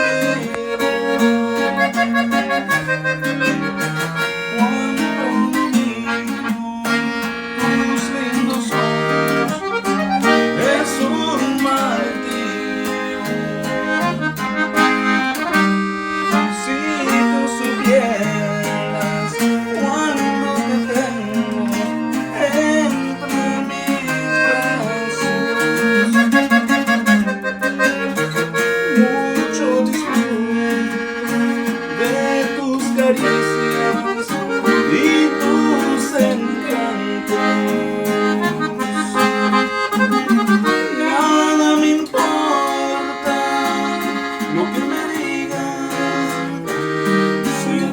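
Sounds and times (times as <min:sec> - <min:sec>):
accordion: 0:00.0 - 0:47.9
guitar strumming chords: 0:00.0 - 0:47.9.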